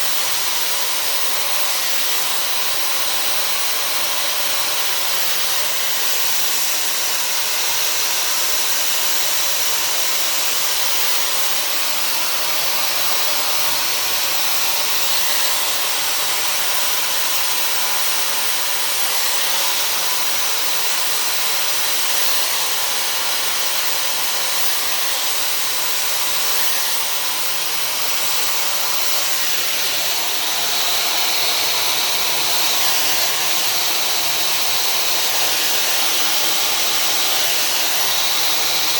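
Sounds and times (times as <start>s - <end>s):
hair dryer blowing air: 0.0s - 38.9s.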